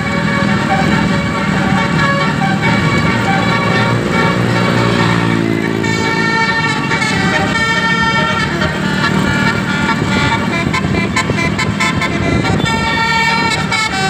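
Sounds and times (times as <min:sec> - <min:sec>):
bus multi-tone horn playing a tune: 0:00.0 - 0:14.0
low engine hum: 0:00.0 - 0:14.0.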